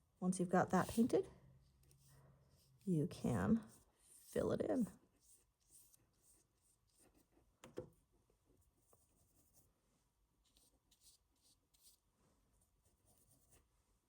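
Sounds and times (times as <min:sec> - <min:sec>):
paintbrush strokes on paper: 0:00.5 - 0:07.4, 0:08.6 - 0:14.0.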